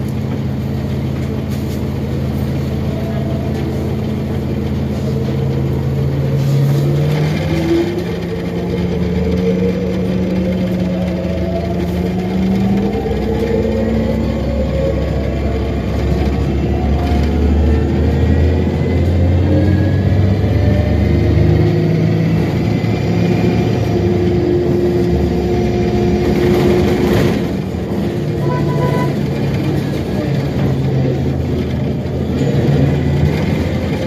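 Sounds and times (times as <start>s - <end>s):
bus engine running: 0.0s - 34.0s.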